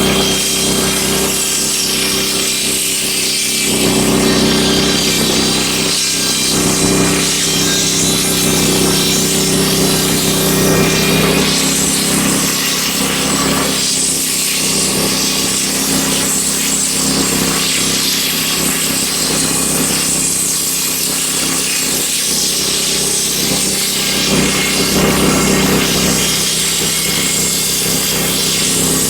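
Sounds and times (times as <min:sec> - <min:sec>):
band sawmill cutting wood: 0:00.0 - 0:29.0.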